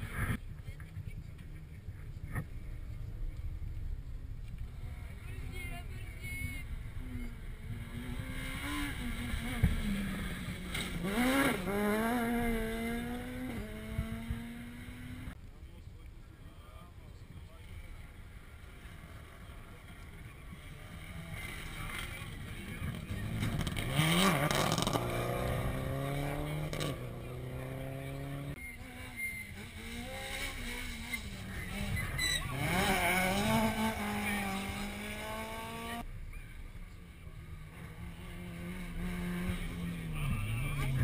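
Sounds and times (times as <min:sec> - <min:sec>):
rally car engines revving: 0:04.6 - 0:15.4, 0:18.1 - 0:36.1, 0:36.8 - 0:41.0.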